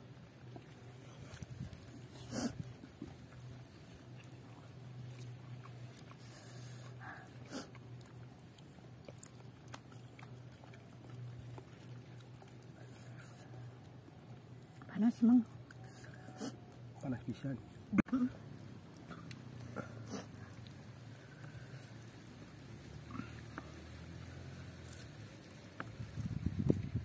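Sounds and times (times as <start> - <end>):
low steady hum: 0.0 - 27.0
chewing and sucking: 0.5 - 27.0.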